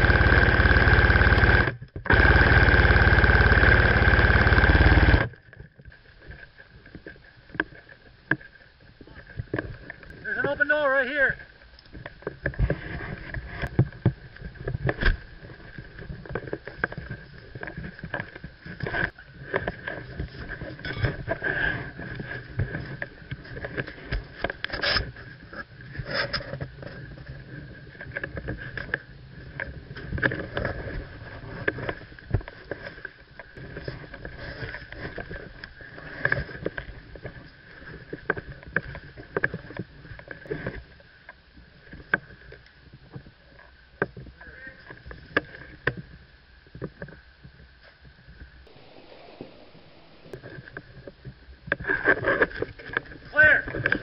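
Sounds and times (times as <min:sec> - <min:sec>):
faint steady whine: 0:00.0 - 0:54.0.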